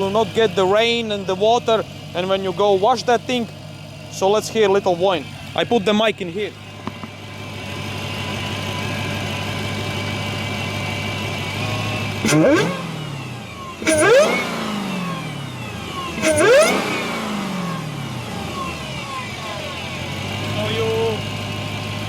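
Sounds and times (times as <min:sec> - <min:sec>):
car engine idling: 0:00.0 - 0:22.0
engine revving with whine: 0:00.0 - 0:22.0.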